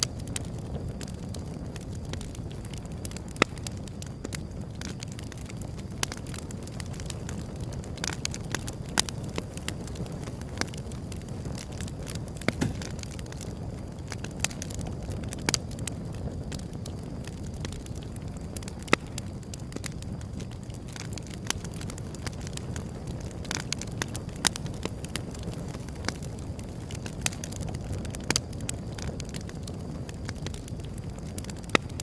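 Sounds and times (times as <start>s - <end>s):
burning wood crackling and popping: 0.0s - 32.0s
low rumble of flames: 0.0s - 32.0s.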